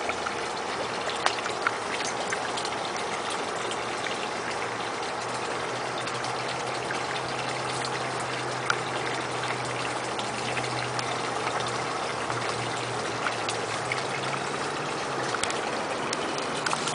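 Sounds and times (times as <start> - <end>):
low steady hum: 0.0 - 16.9
running water in pond: 0.0 - 16.9.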